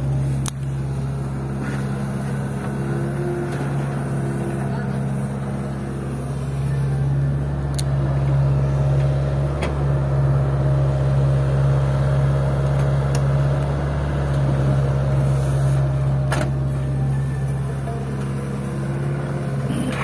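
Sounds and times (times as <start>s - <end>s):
diesel engines humming: 0.0s - 20.0s.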